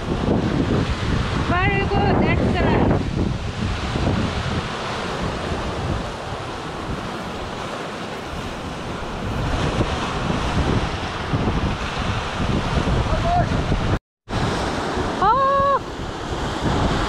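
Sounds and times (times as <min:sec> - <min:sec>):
ocean surf breaking on rocks: 0:00.0 - 0:17.0
wind buffeting microphone: 0:00.0 - 0:17.0.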